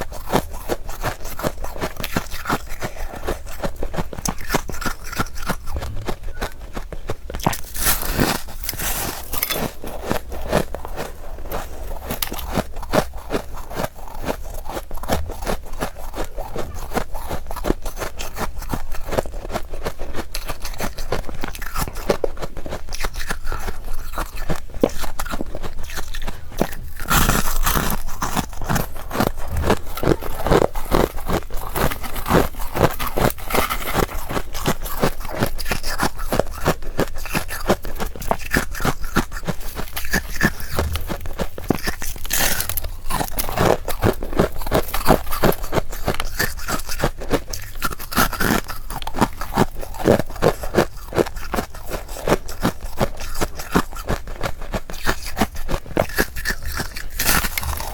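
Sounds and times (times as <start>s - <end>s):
chewing crunchy frost: 0.0s - 57.9s.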